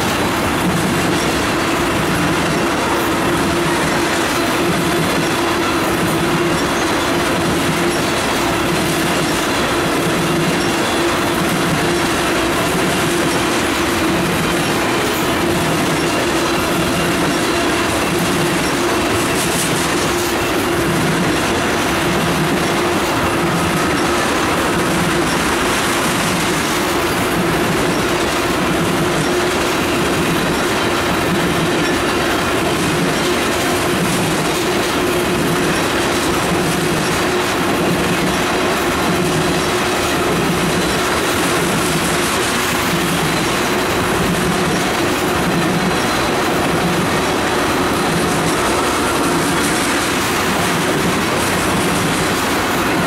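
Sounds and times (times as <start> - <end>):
steady ringing tone: 0.0 - 53.0
train wheels clattering over rails: 0.0 - 53.0.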